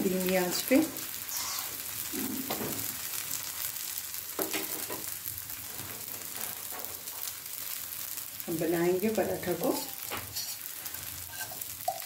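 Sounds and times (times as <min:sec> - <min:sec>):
flatbread sizzling in oil: 0:00.0 - 0:12.0.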